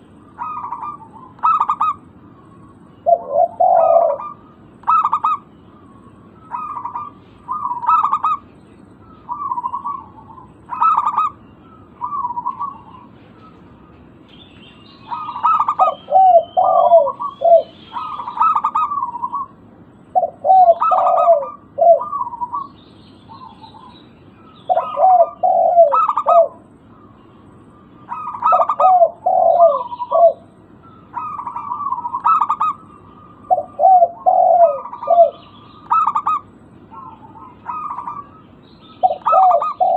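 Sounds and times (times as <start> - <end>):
dove cooing: 0.0 - 14.0, 15.0 - 39.9
faint high bird chirps: 0.0 - 39.9.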